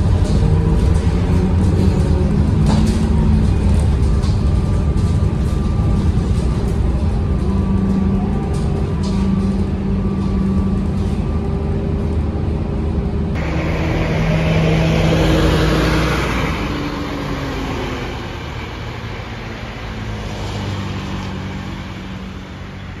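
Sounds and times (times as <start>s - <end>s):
bus diesel engine running: 0.0s - 23.0s
road noise: 0.0s - 23.0s.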